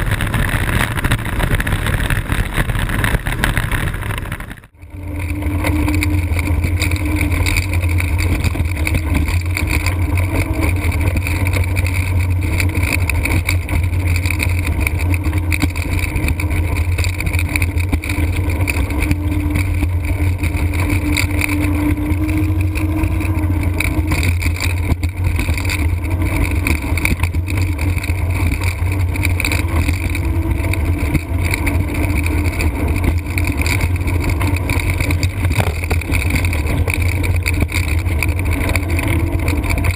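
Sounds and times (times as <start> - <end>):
faint hum: 0.0 - 39.9
wheels rolling: 0.0 - 39.9
wind noise on microphone: 0.0 - 39.9.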